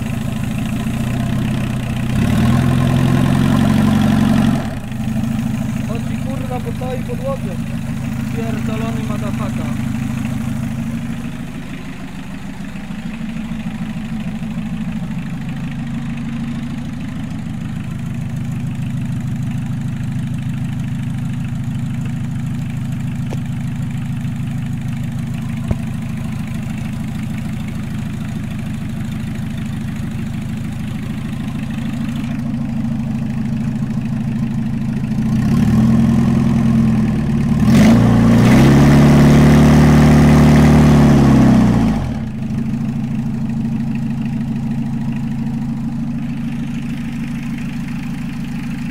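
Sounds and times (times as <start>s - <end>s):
diesel engine idling and revving: 0.0s - 48.9s.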